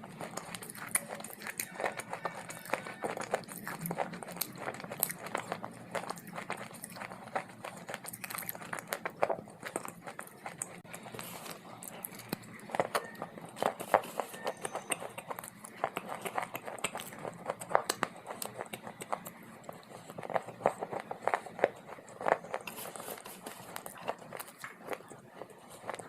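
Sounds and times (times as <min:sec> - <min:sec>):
dry clay crunching when chewed: 0:00.0 - 0:26.0.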